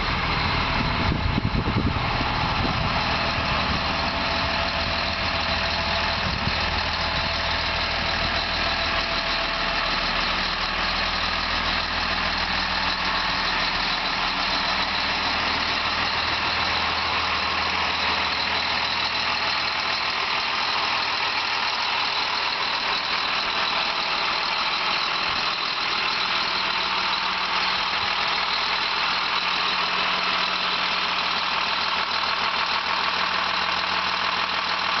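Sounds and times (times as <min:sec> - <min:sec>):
bus engine idling: 0:00.0 - 0:35.0.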